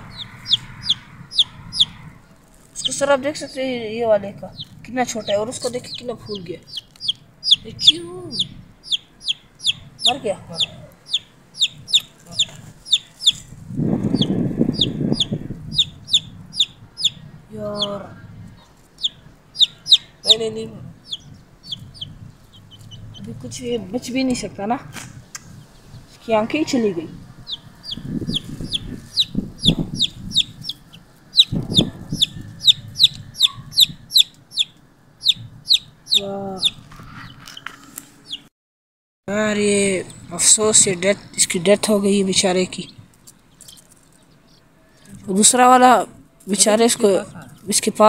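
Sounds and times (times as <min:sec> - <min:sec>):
chick peeping: 0:00.0 - 0:03.6, 0:04.4 - 0:38.5, 0:40.1 - 0:46.0.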